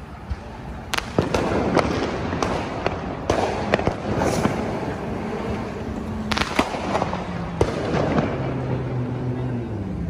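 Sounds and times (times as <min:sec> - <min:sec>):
fireworks bangs and pops: 0:00.2 - 0:09.3.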